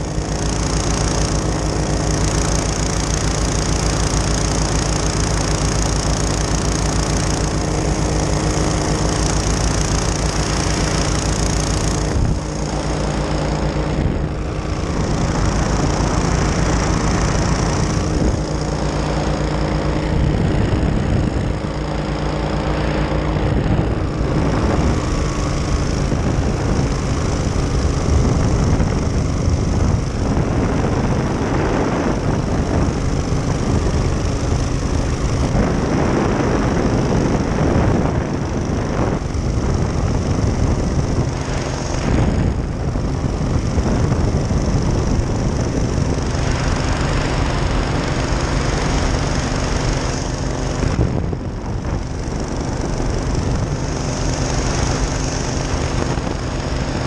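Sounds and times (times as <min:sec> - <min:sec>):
powered parachute engine and propeller: 0:00.0 - 0:57.0
rush of air: 0:00.0 - 0:57.0.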